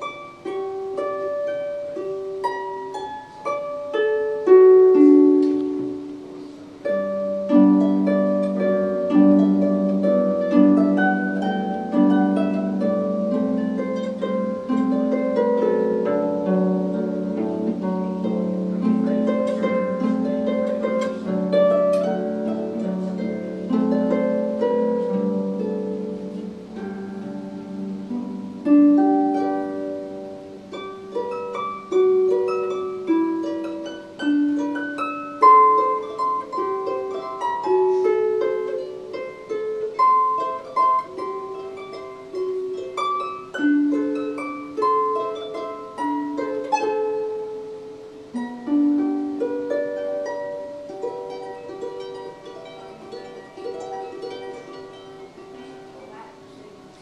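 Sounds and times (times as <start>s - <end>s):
harp plucked strings: 0.0s - 57.0s.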